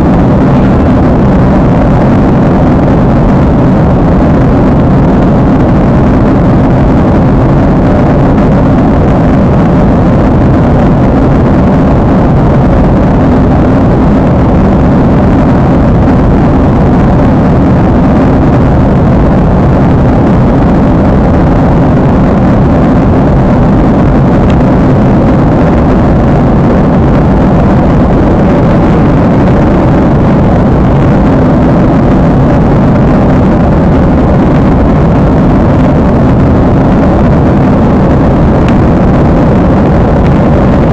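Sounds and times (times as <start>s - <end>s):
jet airliner cabin drone: 0.0s - 40.9s.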